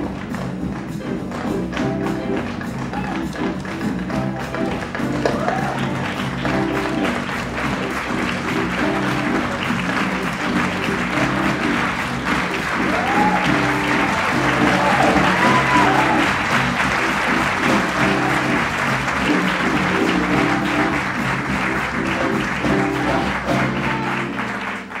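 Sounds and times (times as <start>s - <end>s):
audience applauding: 0.0s - 25.0s
string ensemble music: 0.0s - 25.0s.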